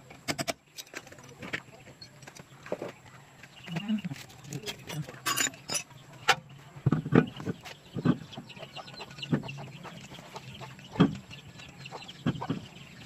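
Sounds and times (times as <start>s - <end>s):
chickens clucking: 1.1s - 13.0s.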